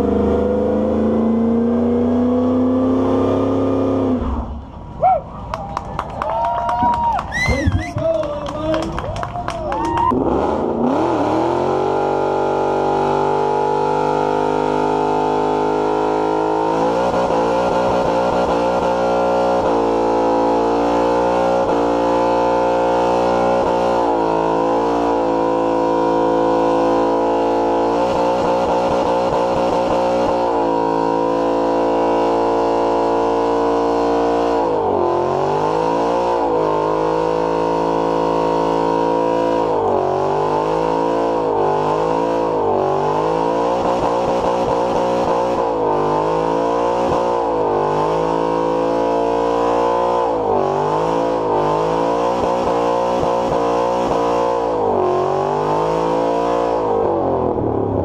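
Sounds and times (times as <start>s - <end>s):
car engine at high revs: 0.0s - 6.2s, 8.7s - 58.0s.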